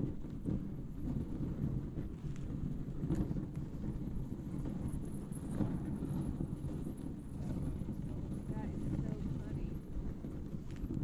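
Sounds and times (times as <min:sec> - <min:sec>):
sled runners rumbling on snow: 0:00.0 - 0:11.0.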